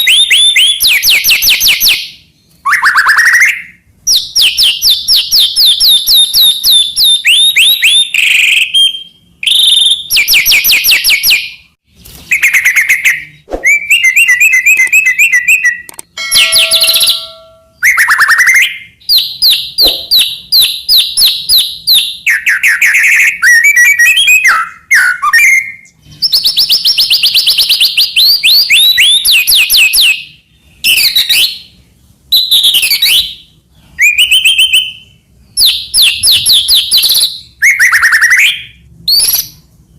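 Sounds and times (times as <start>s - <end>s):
songbird whistling and warbling: 0.0s - 11.7s, 12.3s - 39.6s.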